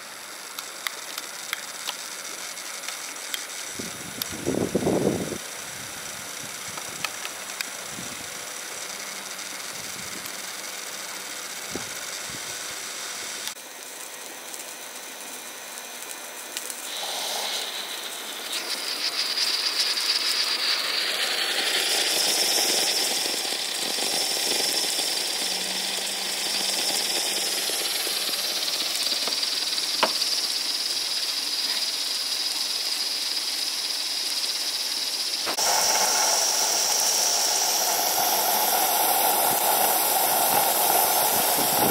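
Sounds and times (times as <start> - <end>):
fan running: 0.0 - 41.9
steady steam hiss: 0.0 - 41.9.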